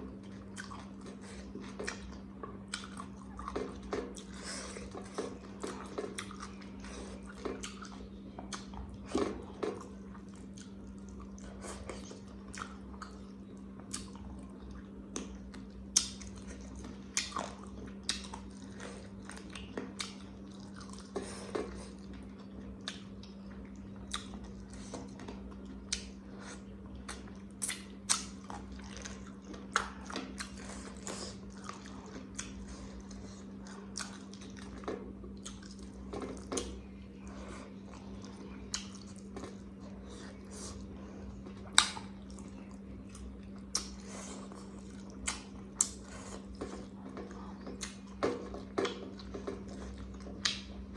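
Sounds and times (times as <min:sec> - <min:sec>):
chewing and biting food: 0:00.0 - 0:50.9.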